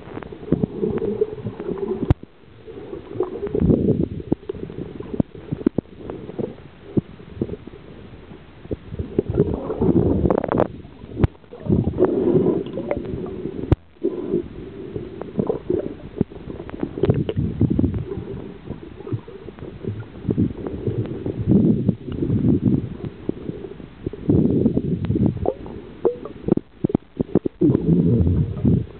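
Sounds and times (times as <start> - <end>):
muffled water sloshing: 0.0 - 28.9.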